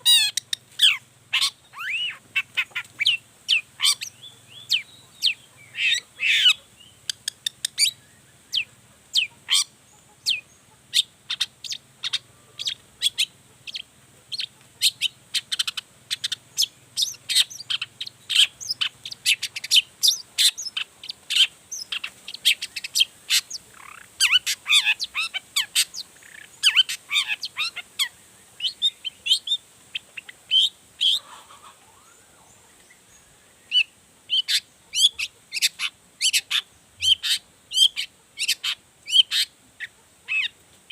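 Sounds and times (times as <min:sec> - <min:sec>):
bird singing chirps and chatter: 0:00.0 - 0:40.6.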